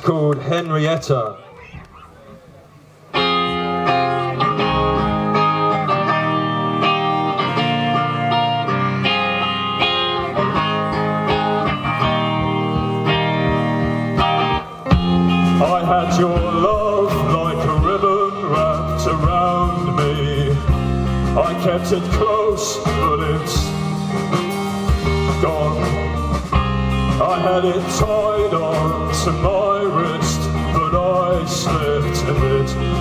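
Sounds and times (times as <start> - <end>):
live band sustained chords: 2.5 - 33.0.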